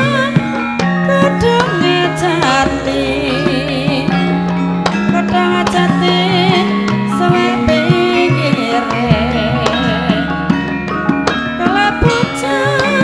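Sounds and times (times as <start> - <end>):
woman singing with vibrato: 0.0 - 10.6, 11.6 - 13.0
hand drum strokes: 0.0 - 13.0
struck gong tones: 0.0 - 13.0.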